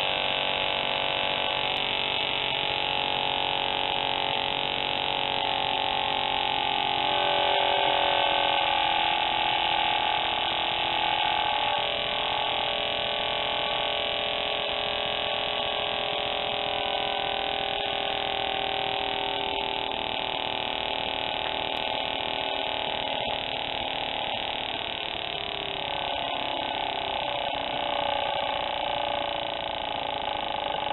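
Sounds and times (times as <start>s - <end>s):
model motor whining: 0.0s - 30.9s.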